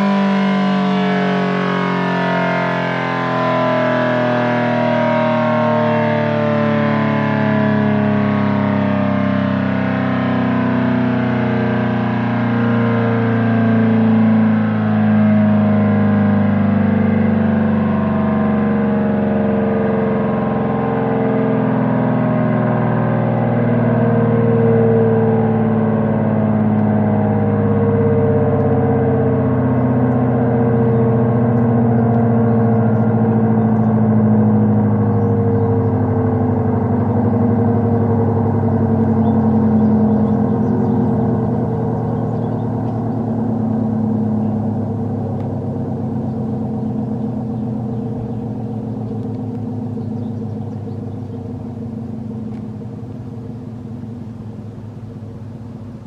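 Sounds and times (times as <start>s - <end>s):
electromechanical siren wailing: 0.0s - 56.0s.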